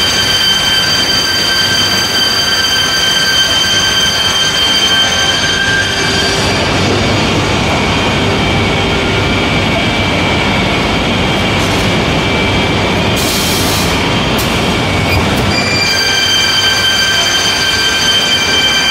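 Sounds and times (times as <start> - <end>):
high machine whines: 0.0 - 18.9.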